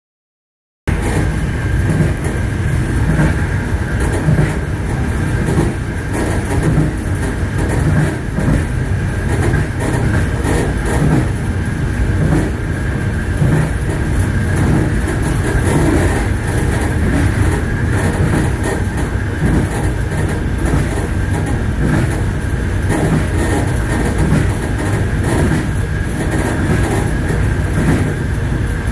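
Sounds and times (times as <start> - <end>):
train rumble: 0.9 - 28.9
train wheels clattering over rail joints: 0.9 - 28.9.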